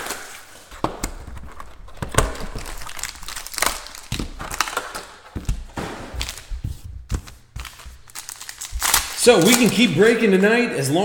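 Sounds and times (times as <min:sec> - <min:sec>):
plastic wrapping crinkling and tearing: 0:00.0 - 0:10.2.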